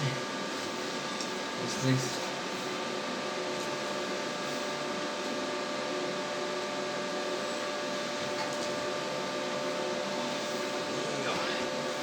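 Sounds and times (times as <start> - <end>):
fan or motor humming: 0.0 - 12.0.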